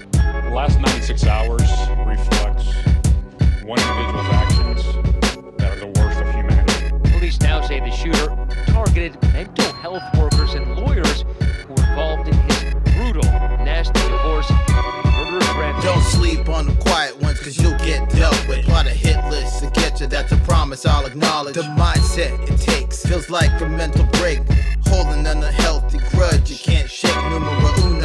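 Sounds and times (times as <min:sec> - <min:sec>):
rapping over a beat: 0:00.0 - 0:28.0.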